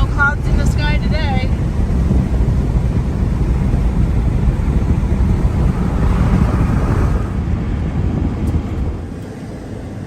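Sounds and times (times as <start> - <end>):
wind on microphone: 0.0 - 9.4
vehicle engine and road rumble: 0.0 - 10.0.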